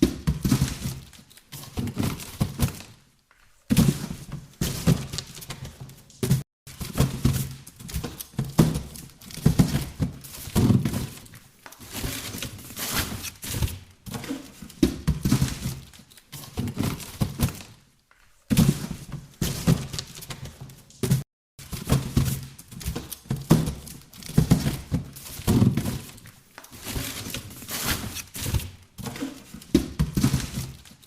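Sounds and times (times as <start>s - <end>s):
boxes being handled: 0.0s - 31.0s.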